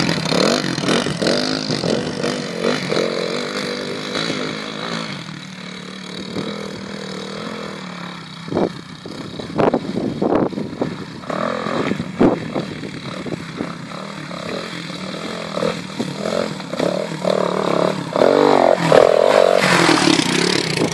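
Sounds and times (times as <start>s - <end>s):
motorbike engine revving: 0.0s - 20.9s.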